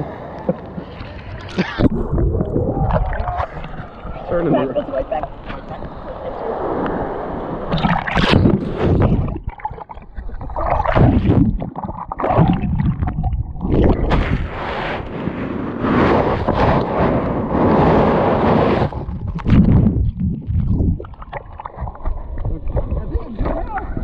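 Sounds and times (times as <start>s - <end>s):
surf splashing and churning: 0.0s - 24.0s.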